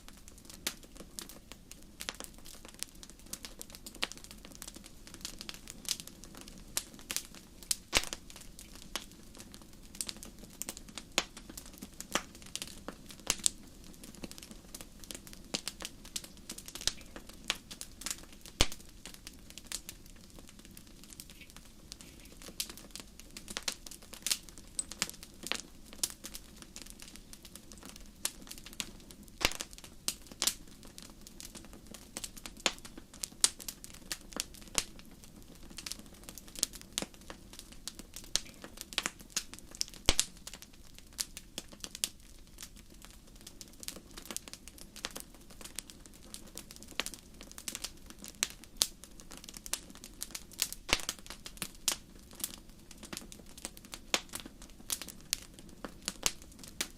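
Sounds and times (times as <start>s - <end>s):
campfire crackling and popping: 0.0s - 56.9s
low rumble of flames: 0.0s - 56.9s.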